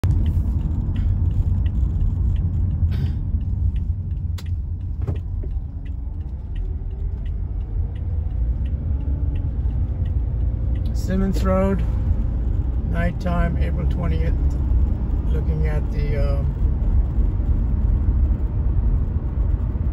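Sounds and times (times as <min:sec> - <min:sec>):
car engine and tyres rumbling: 0:00.0 - 0:19.9.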